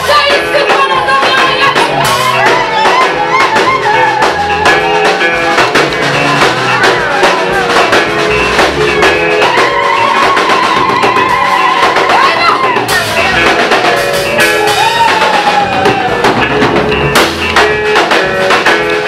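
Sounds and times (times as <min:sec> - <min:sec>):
drum kit beat: 0:00.0 - 0:19.0
guitar playing: 0:00.0 - 0:19.0.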